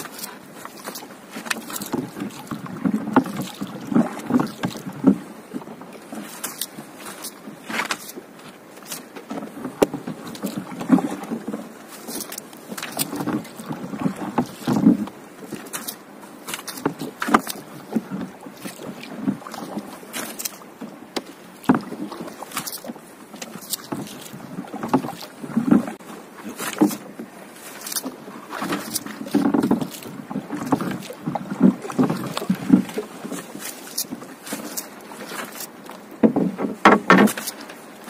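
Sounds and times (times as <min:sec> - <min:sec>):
paddle bumping boat hull: 0:00.0 - 0:38.0.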